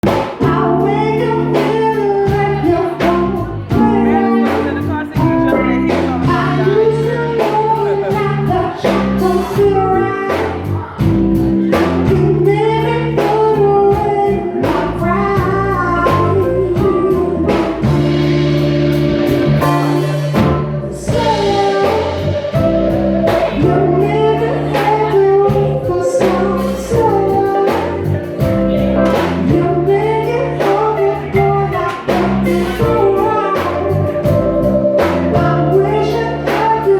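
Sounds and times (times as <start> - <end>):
bass guitar: 0.0 - 36.9
electric guitar: 0.0 - 36.9
lead vocal: 0.0 - 36.9
steady drum beat: 0.0 - 36.9.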